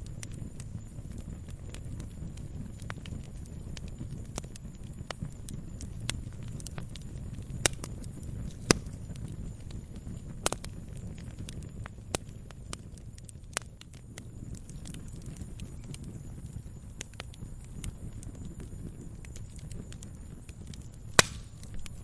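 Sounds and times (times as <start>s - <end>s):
campfire crackling: 0.0s - 22.0s
low steady rumble: 0.0s - 22.0s.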